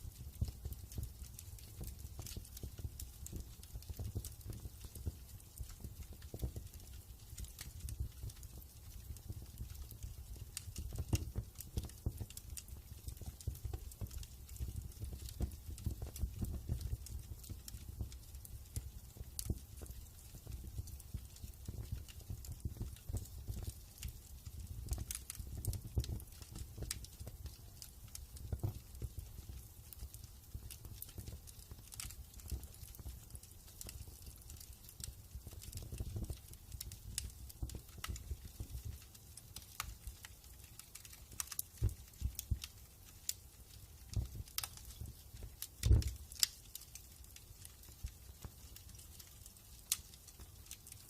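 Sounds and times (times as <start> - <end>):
low rumble of flames: 0.0 - 51.0
wood fire crackling and popping: 0.0 - 51.0.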